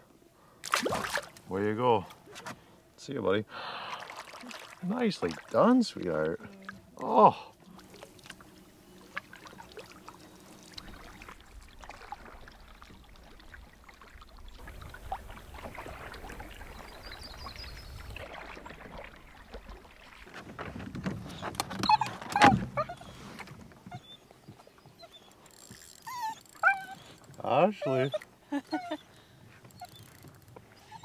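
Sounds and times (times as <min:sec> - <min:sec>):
water lapping around canoe: 0:00.5 - 0:02.9, 0:03.5 - 0:31.0.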